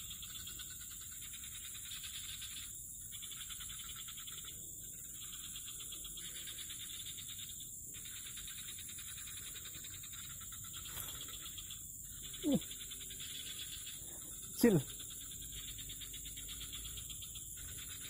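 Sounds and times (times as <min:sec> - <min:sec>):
frogs trilling: 0:00.0 - 0:18.0
insects buzzing: 0:00.0 - 0:18.0.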